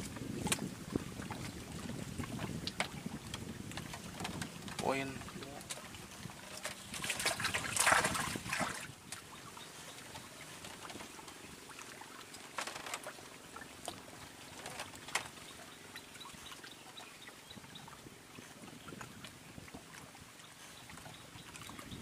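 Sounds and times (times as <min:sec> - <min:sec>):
water lapping and trickling: 0:00.0 - 0:22.0.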